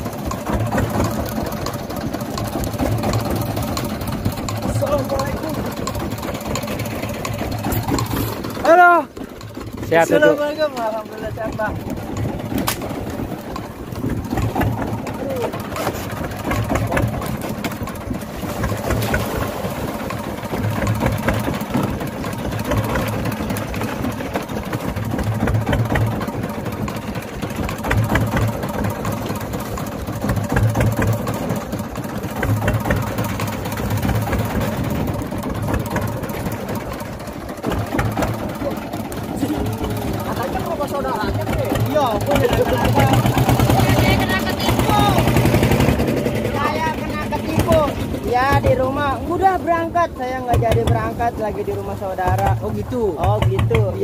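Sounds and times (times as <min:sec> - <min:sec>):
engine idling with low throb: 0:00.0 - 0:54.0.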